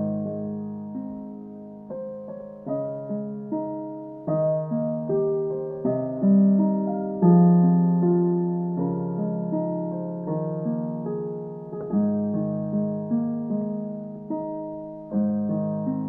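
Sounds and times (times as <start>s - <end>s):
slow piano notes and chords: 0.0s - 16.0s.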